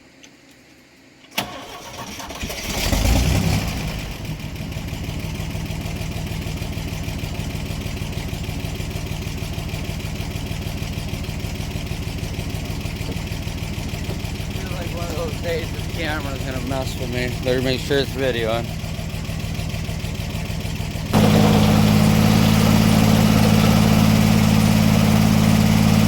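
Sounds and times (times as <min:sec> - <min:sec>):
engine starting and idling: 0:01.3 - 0:26.0.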